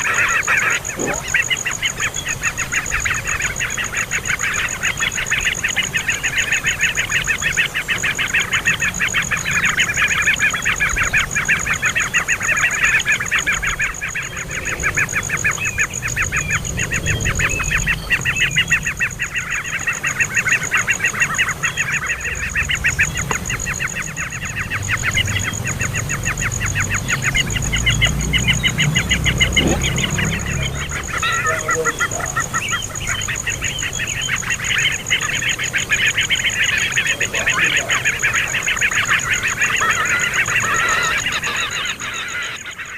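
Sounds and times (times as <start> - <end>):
young bird chattering: 0.0 - 42.9.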